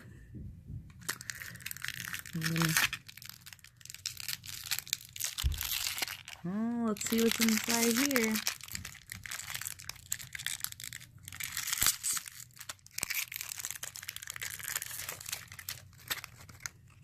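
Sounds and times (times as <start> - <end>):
plastic packet crinkling: 1.0 - 17.0.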